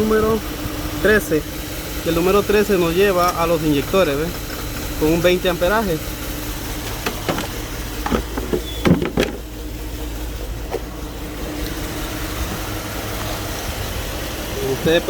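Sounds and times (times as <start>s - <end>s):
engine idling with a misfire: 0.0s - 15.0s.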